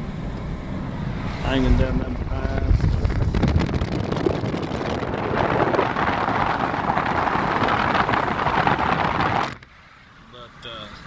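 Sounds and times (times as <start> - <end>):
road and tyre noise: 0.0 - 11.0.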